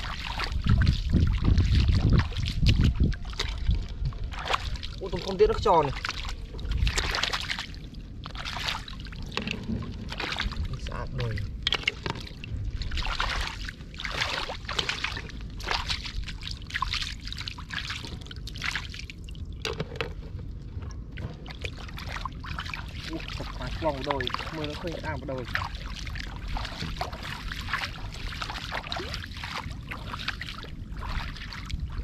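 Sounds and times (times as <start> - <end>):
floodwater sloshing and trickling: 0.0 - 32.0.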